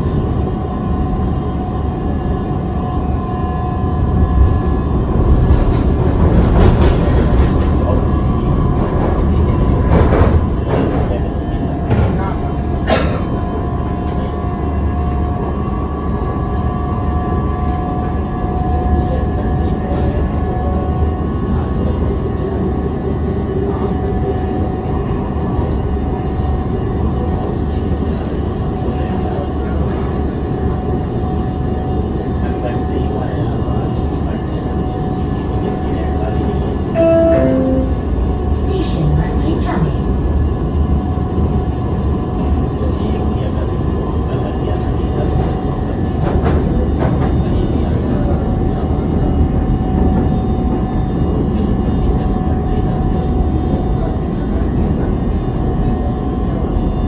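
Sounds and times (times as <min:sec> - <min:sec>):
wheels rumbling on rail: 0:00.0 - 0:57.0.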